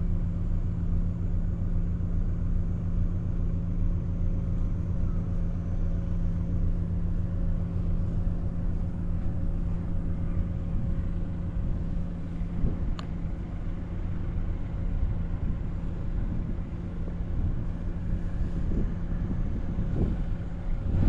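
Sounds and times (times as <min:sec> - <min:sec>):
low engine hum: 0:00.0 - 0:21.0
low rumble: 0:00.0 - 0:21.0.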